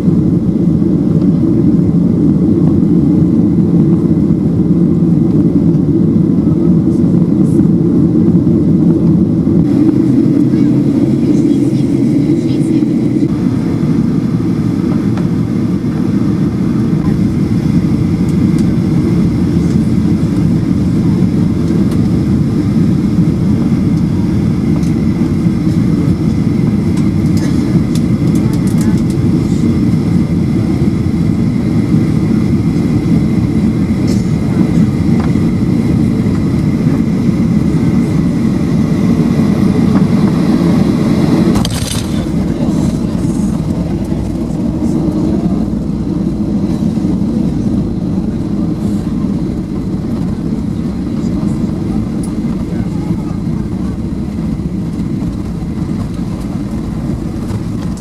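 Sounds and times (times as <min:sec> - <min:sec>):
airliner engine and airflow rumble: 0:00.0 - 0:58.0.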